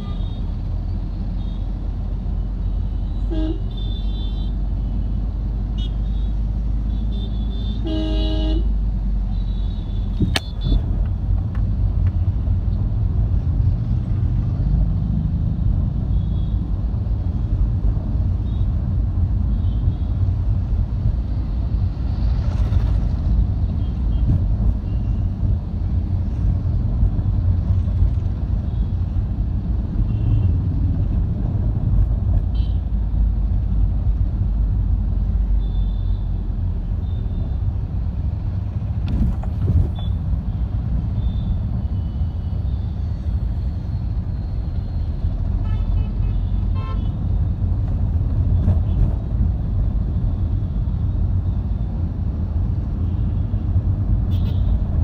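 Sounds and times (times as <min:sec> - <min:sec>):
vehicle road noise rumble: 0:00.0 - 0:55.0.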